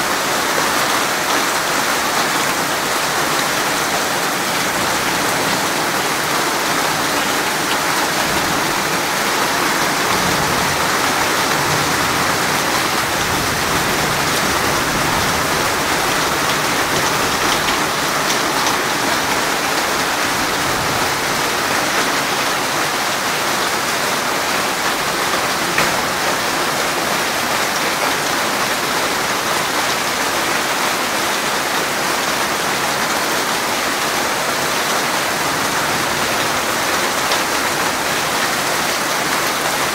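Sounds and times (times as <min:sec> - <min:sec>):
steady rain hiss: 0:00.1 - 0:39.9.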